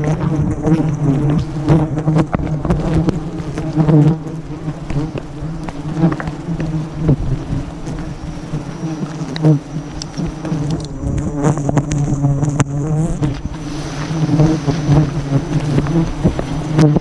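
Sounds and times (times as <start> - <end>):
bees buzzing loudly: 0.0 - 17.0.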